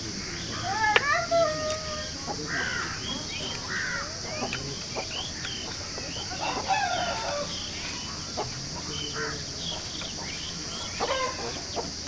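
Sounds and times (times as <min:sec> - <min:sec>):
birds chirping and clucking: 0:00.0 - 0:12.0
steady high hiss: 0:00.0 - 0:12.0.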